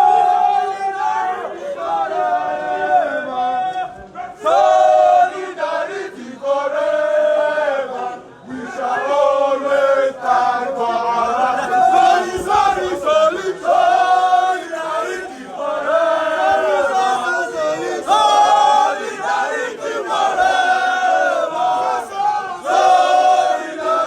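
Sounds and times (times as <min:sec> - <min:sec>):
crowd chanting and singing: 0:00.0 - 0:24.0.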